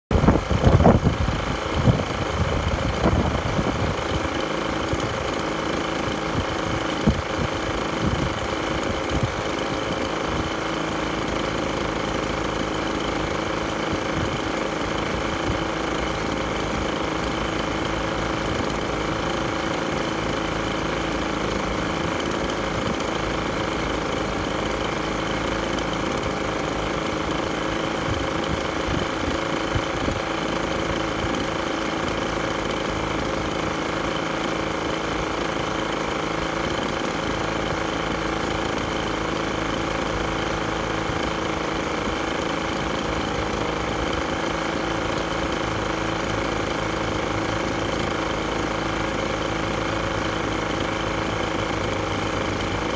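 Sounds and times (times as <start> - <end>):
leaf blower engine idling: 0.1 - 52.9.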